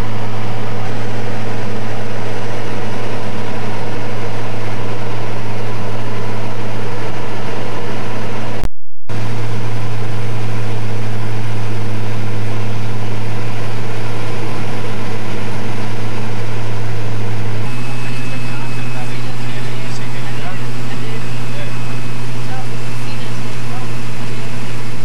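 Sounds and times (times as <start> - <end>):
propeller aircraft engine droning: 0.0 - 25.0.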